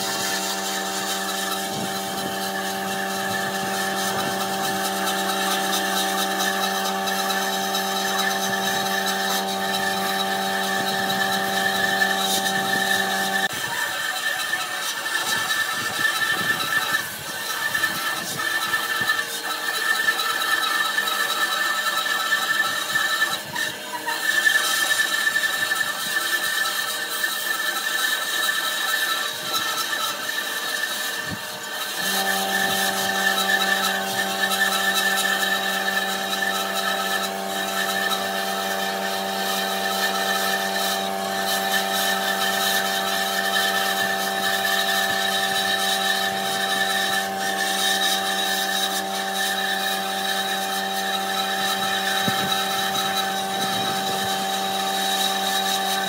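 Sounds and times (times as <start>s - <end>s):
bandsaw cutting wood: 0.0s - 56.0s.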